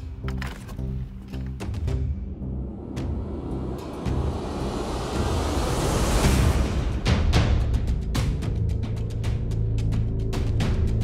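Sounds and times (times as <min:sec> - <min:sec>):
dramatic cinematic music: 0:00.0 - 0:11.0.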